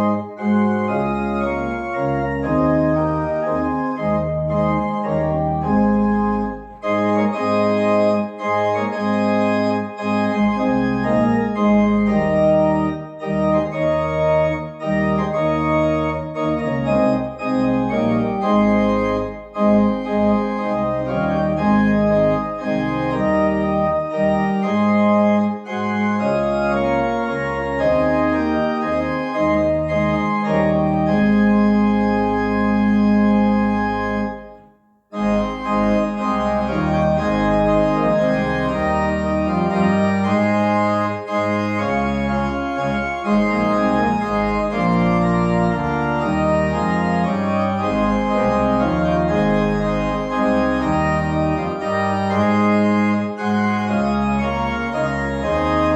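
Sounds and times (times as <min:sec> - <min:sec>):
organ chords: 0:00.0 - 0:55.9.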